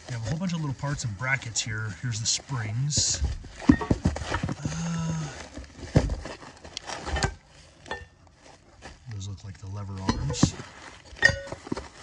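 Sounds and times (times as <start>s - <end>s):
plastic wrap rustling: 0.0s - 12.0s.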